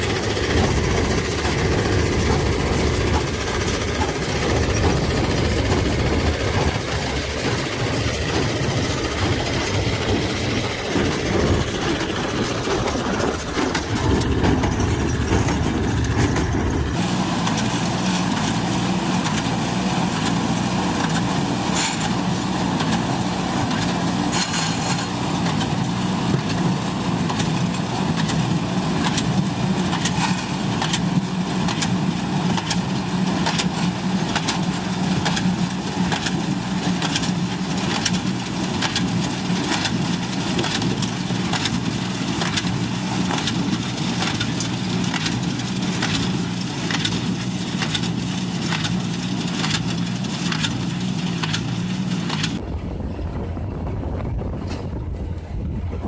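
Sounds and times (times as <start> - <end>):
hay baler knocking: 0.0 - 52.6
tractor engine running: 0.0 - 56.0.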